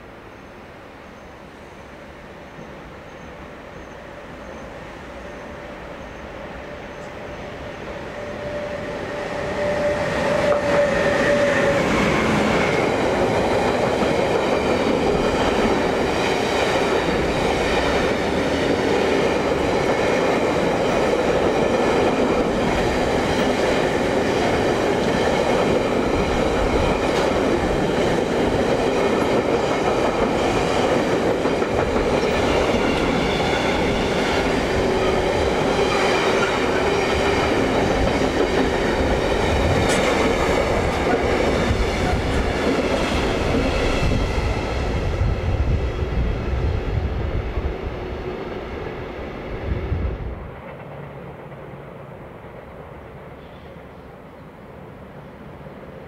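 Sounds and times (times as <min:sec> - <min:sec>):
train wheels rumbling on rail: 0:01.2 - 0:56.0.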